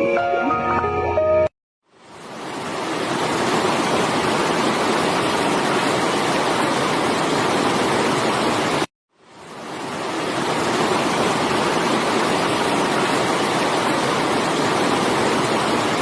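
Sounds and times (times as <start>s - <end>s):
rushing water: 1.8s - 16.0s.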